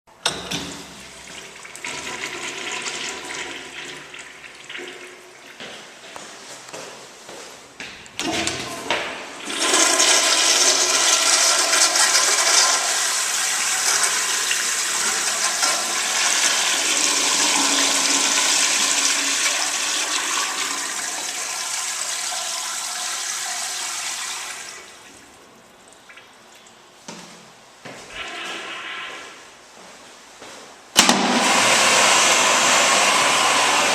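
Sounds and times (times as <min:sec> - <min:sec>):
toilet flushing: 0:00.2 - 0:06.1, 0:08.2 - 0:27.2, 0:27.8 - 0:29.4, 0:31.0 - 0:33.9.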